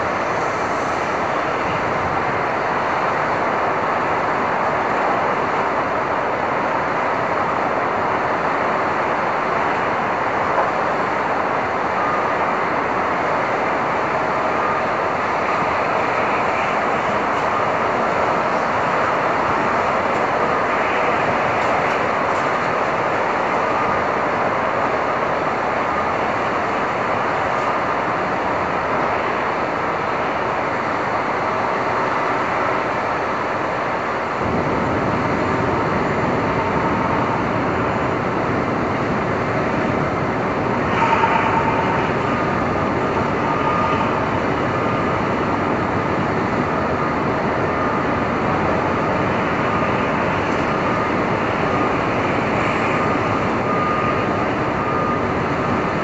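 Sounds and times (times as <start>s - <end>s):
city traffic noise: 0.0s - 56.0s.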